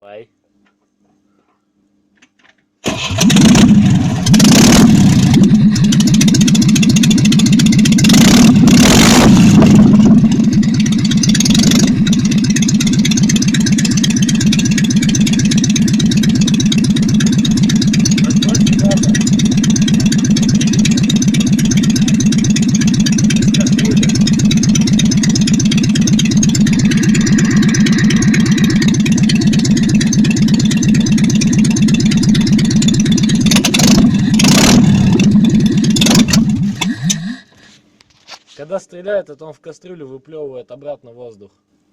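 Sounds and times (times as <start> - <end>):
petrol engine barking and idling: 2.8 - 37.6.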